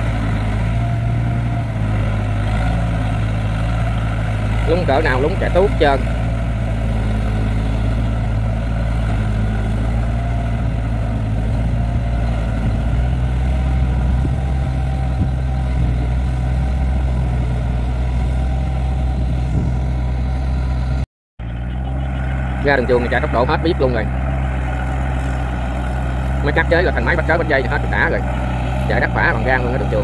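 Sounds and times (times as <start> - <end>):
engine running under load: 0.0 - 30.0.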